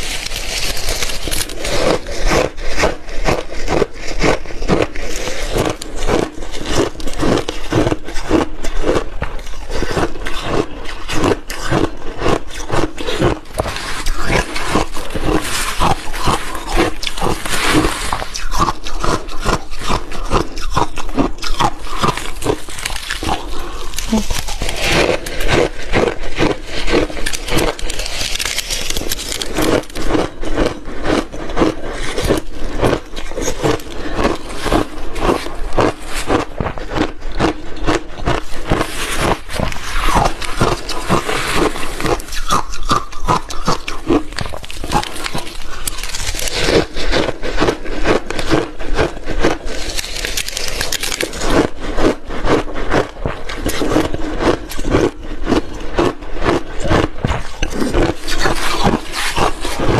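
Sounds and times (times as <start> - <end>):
chewing shaved ice crunches: 0.0 - 59.9.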